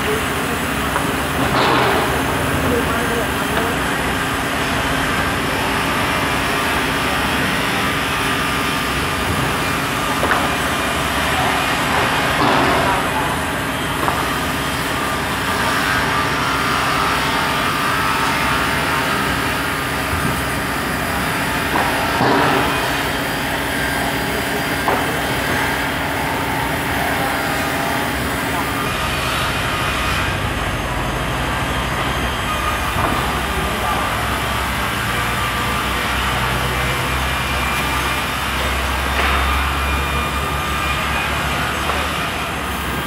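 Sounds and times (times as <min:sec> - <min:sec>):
saw machines humming: 0:00.0 - 0:43.0.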